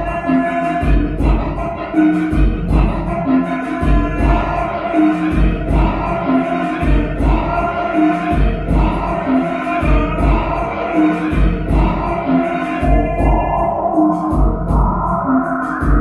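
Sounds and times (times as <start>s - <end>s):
deep bass pulses: 0.0s - 16.0s
looped electronic music: 0.0s - 16.0s.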